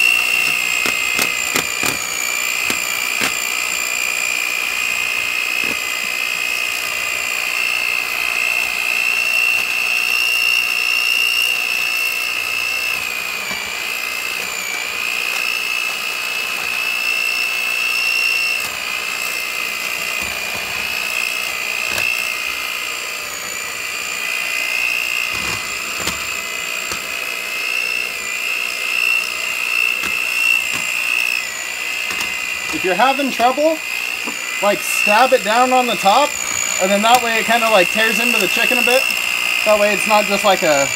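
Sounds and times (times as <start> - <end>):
electric hand mixer whine: 0.0 - 40.9.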